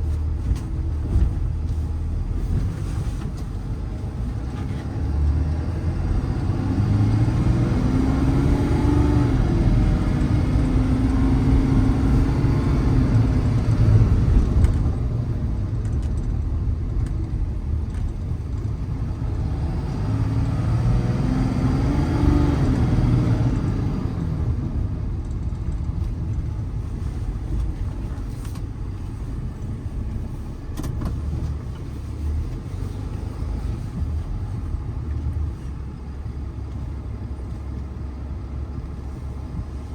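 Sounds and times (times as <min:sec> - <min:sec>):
diesel truck engine driving: 0:00.0 - 0:39.9
road noise: 0:00.0 - 0:39.9.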